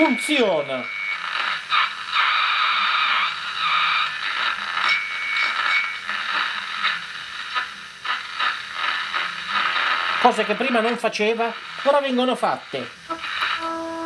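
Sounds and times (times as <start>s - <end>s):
radio whistle: 0.0s - 10.4s, 13.0s - 14.0s
radio speaker hiss and crackle: 0.0s - 14.0s.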